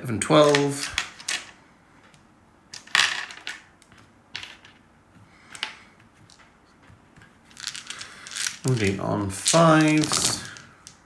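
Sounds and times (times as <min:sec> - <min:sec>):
dice clattering: 0:00.4 - 0:04.9, 0:05.5 - 0:11.0.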